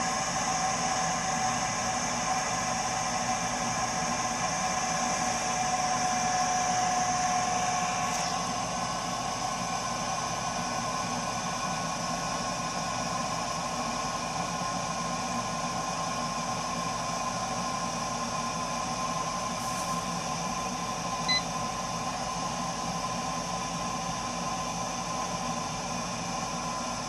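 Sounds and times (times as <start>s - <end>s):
boiler whine: 0.0s - 27.0s.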